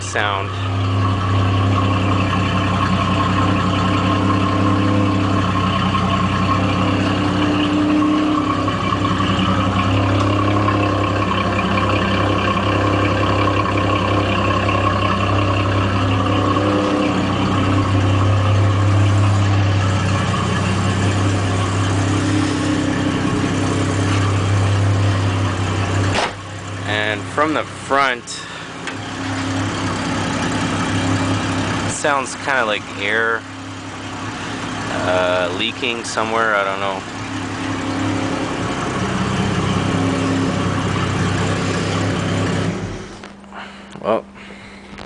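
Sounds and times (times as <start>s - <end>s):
car engine idling unevenly: 0.0s - 45.0s.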